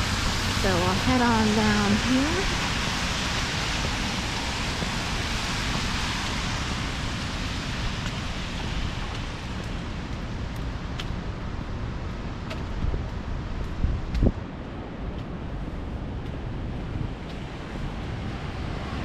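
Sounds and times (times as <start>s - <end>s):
rain: 0.0s - 19.0s
wet road traffic: 0.0s - 19.0s.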